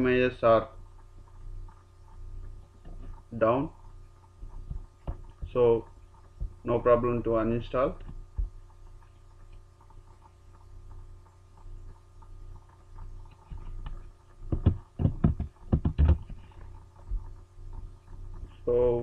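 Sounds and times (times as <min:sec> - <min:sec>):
steady mains hum: 0:00.0 - 0:19.0.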